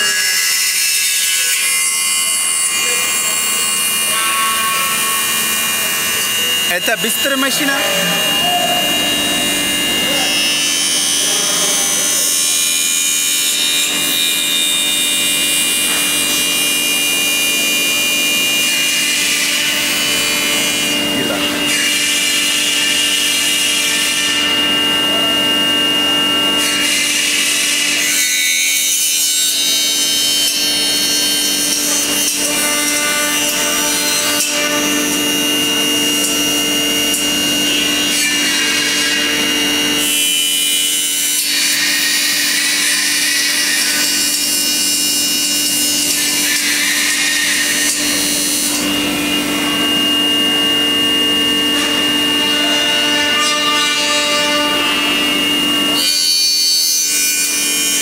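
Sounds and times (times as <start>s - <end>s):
cutter hissing through metal: 0.0s - 53.2s
machine spindle whine: 0.1s - 53.0s.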